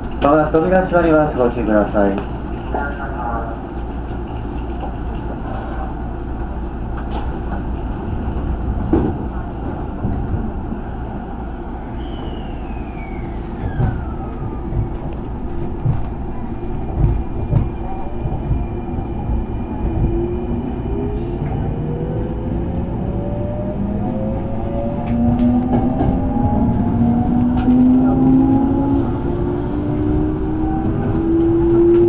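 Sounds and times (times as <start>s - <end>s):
train low rumble: 0.0s - 32.0s.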